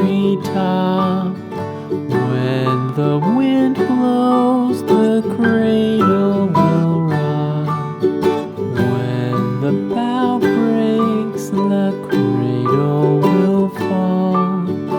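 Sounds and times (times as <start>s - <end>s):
plucked acoustic guitar tune: 0.0s - 14.9s.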